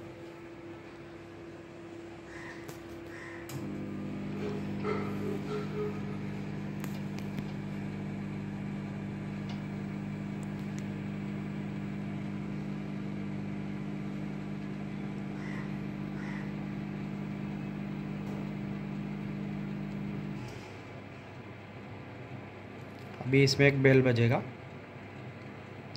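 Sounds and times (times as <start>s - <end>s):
microwave oven humming: 0.0s - 25.9s.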